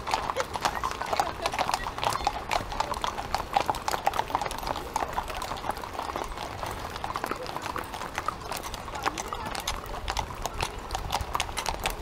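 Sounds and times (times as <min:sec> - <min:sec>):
horse hooves on asphalt: 0:00.0 - 0:12.0.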